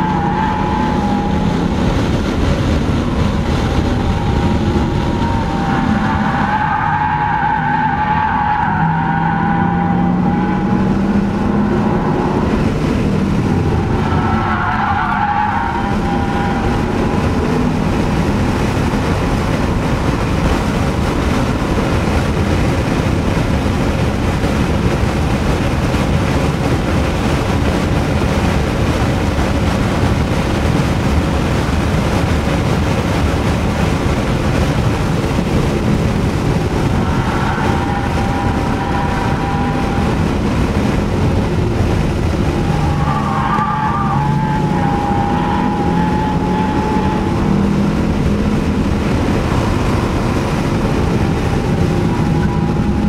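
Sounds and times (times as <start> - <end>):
car engine under load: 0.0 - 53.0
road and wind noise: 0.0 - 53.0.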